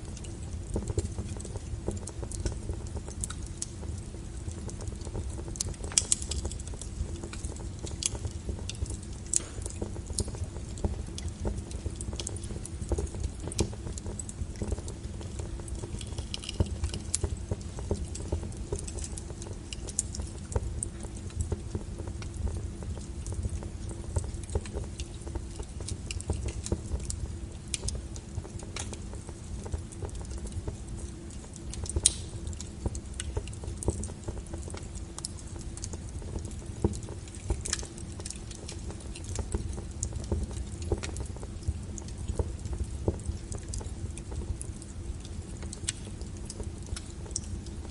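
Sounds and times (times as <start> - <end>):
low rumble of flame: 0.0 - 47.9
wood fire crackling: 0.0 - 47.9.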